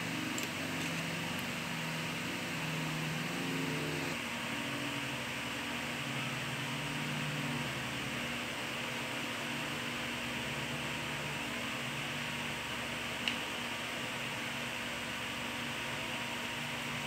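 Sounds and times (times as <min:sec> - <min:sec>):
fan hiss: 0:00.0 - 0:17.0.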